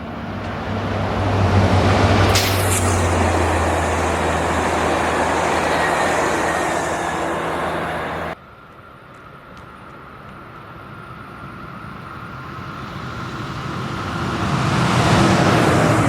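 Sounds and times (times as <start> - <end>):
diesel locomotive engine drone: 0.0 - 16.0
train wheels rumbling on rails: 0.0 - 16.0.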